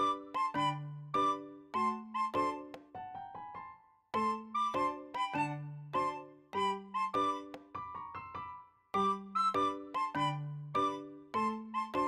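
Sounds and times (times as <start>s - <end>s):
simple melody of struck notes: 0.0s - 8.3s, 9.0s - 12.0s.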